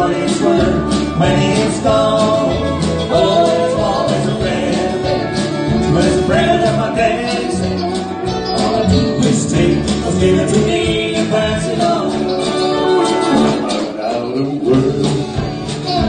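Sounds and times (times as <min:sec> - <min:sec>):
country band music: 0:00.0 - 0:16.0.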